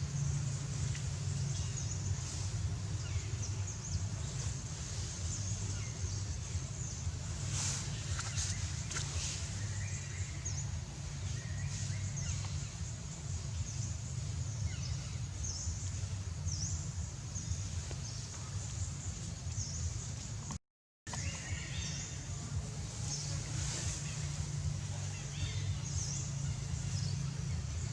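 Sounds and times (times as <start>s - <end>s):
low rumble: 0.0s - 20.5s, 21.2s - 27.9s.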